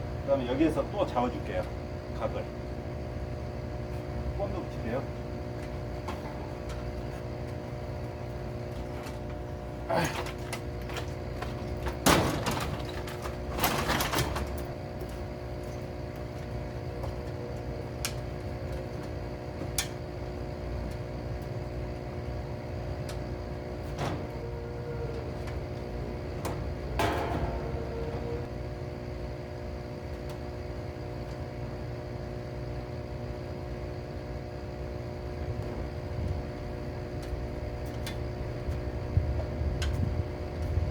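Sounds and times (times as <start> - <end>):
mechanical hum: 0.0 - 40.9.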